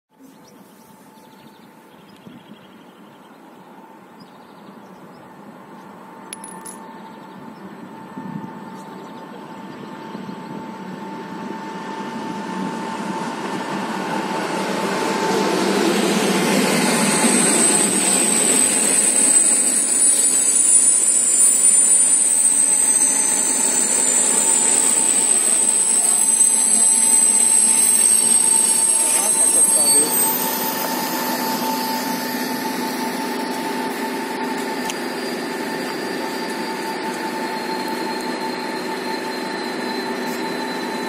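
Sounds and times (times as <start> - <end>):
high-pitched whine: 0.2 - 41.0
train rumbling on track: 1.1 - 41.0.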